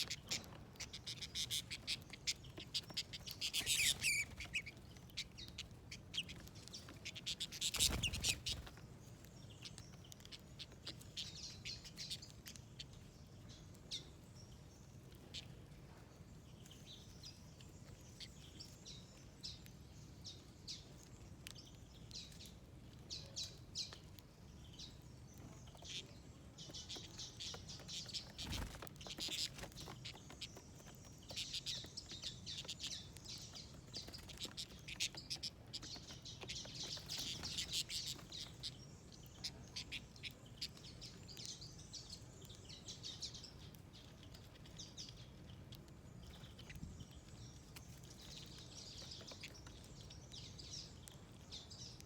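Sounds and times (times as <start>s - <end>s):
birds chirping and twittering: 0.0s - 52.0s.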